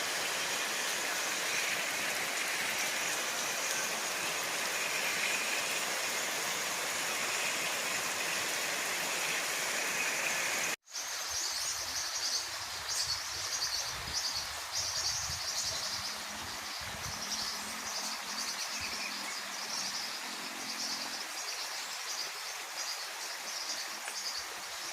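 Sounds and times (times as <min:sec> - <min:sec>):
heavy rain hissing: 0:00.0 - 0:24.9
insects chirping: 0:00.0 - 0:24.9.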